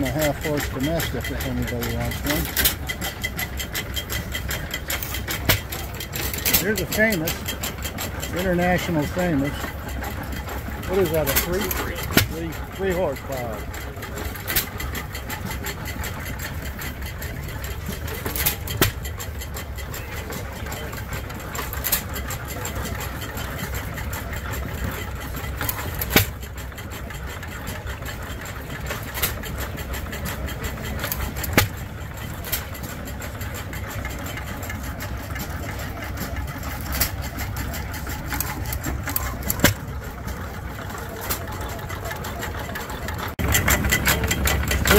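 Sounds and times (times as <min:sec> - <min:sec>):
sharp exhaust pops: 0:00.0 - 0:41.7
gas engines rumbling: 0:00.0 - 0:44.9.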